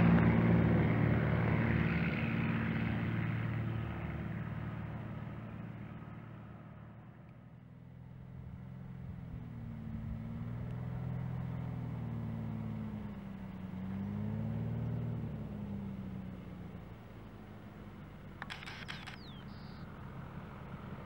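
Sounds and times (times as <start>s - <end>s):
propeller plane engine droning: 0.0s - 21.0s.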